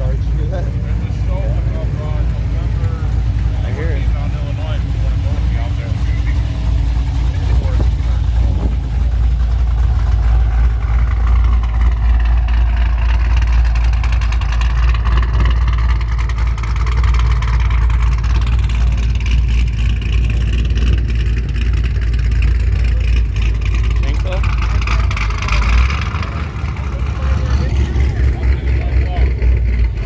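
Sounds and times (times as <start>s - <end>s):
supercharged car engine revving: 0.0s - 30.0s.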